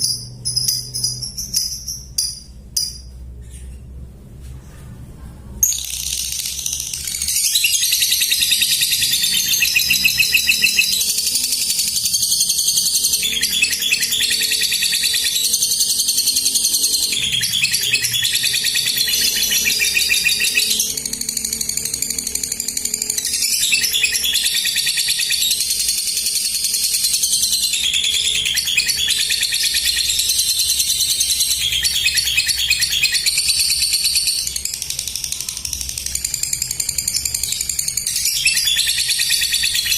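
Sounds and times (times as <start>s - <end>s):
bird chattering trills: 5.6s - 39.9s.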